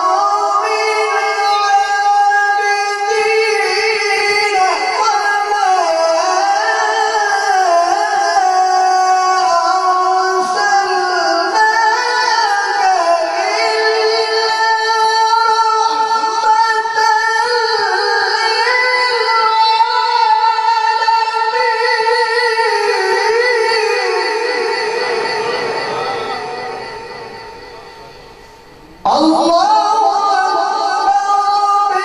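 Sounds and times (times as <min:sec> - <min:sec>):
man reciting melodically: 0:00.0 - 0:32.0.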